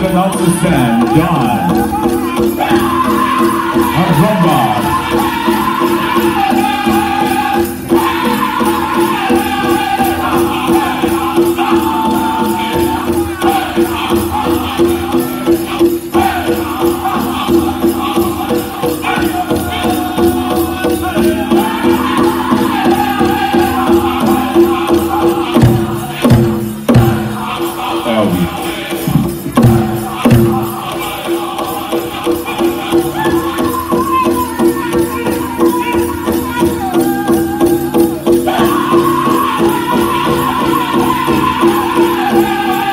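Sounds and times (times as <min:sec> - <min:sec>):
jingling bells: 0:00.0 - 0:42.9
men singing in chorus: 0:00.0 - 0:42.9
steady pounded drumbeat: 0:00.0 - 0:42.9.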